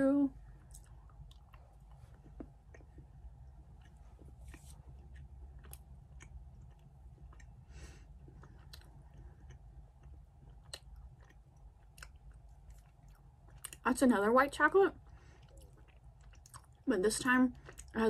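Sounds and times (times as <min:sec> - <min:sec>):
low steady hum: 0:00.0 - 0:18.0
faint chocolate chewing: 0:00.3 - 0:13.9, 0:14.7 - 0:16.9, 0:17.5 - 0:18.0.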